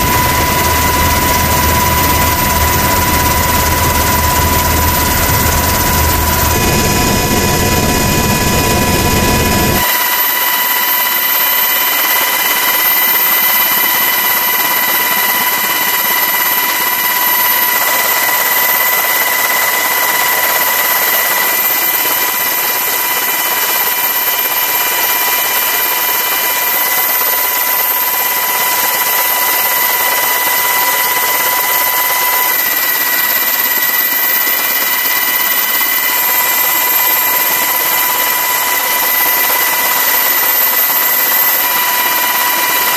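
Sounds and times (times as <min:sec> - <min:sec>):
turbine engine whining: 0:00.0 - 0:42.9.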